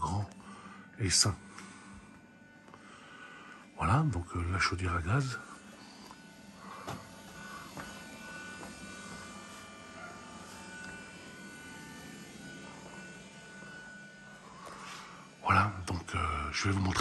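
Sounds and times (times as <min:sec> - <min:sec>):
electrical hum: 0:00.0 - 0:17.0
faint high whine: 0:00.0 - 0:17.0.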